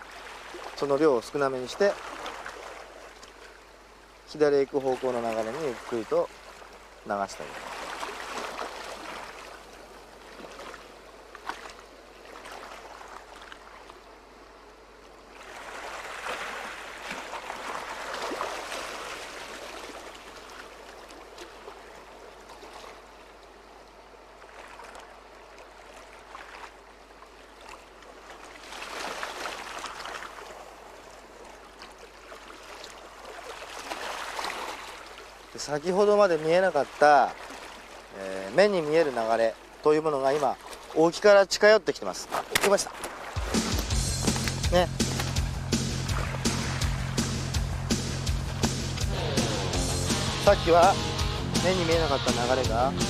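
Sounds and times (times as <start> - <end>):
seawater washing among rocks: 0.0 - 3.6, 4.3 - 14.1, 15.2 - 23.2, 24.4 - 47.3
waves surging: 0.0 - 53.0.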